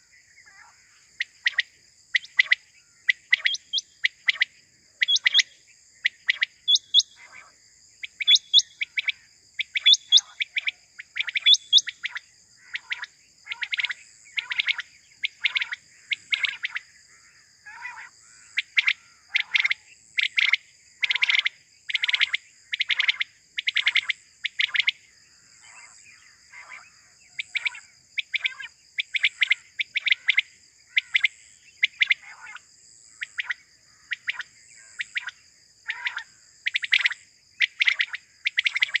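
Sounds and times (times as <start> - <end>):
quail whistled calls: 0.0 - 16.8, 17.7 - 25.0, 26.6 - 32.6, 33.2 - 39.0
insect drone: 0.0 - 39.0.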